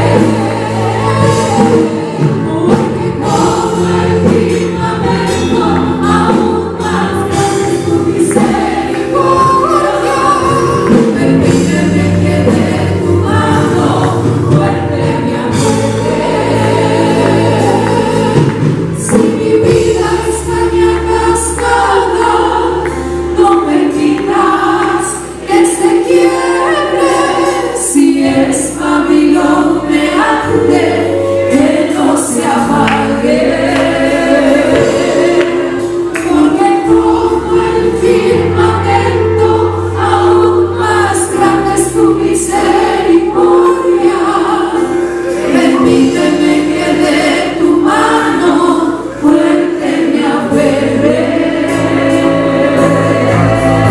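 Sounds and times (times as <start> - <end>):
band playing low notes: 0.0 - 53.9
percussion strokes: 0.0 - 53.9
voices singing along: 0.0 - 53.9.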